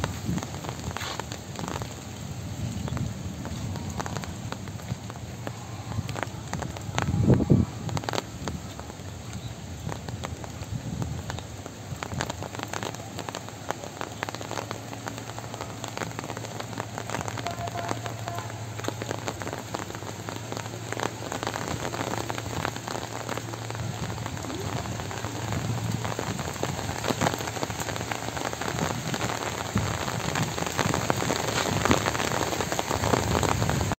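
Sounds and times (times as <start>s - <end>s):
steady rain patter: 0.0s - 34.0s.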